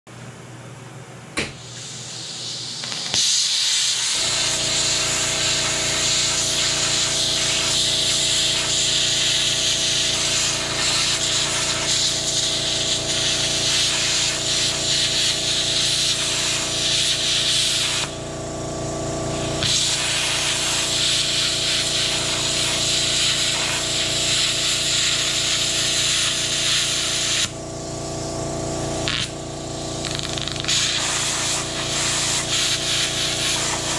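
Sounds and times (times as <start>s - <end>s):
welder hum: 1.4s - 33.9s
welding sizzling hiss: 1.6s - 18.2s, 19.4s - 27.5s, 29.0s - 33.9s.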